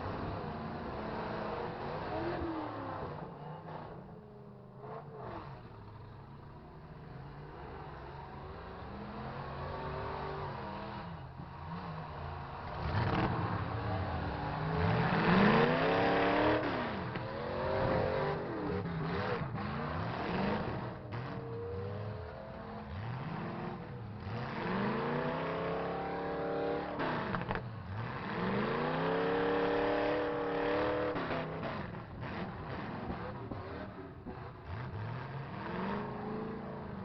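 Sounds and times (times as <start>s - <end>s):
truck engines revving: 0.0s - 37.0s.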